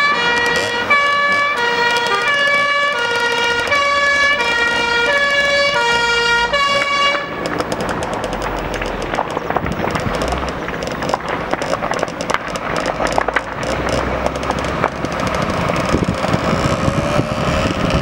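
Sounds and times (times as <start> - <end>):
fire engine diesel engines running: 0.0 - 18.0.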